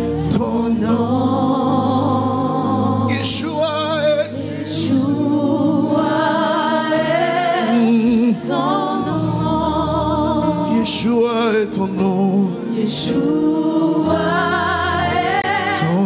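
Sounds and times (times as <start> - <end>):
backing vocalists singing: 0.0 - 16.0
lead singer: 0.0 - 16.0.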